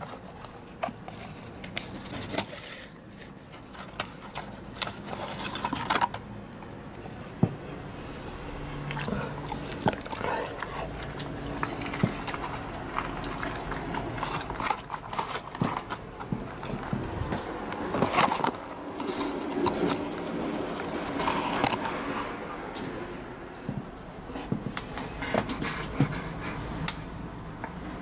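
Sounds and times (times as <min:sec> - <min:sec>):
dog eating: 0:00.0 - 0:22.7.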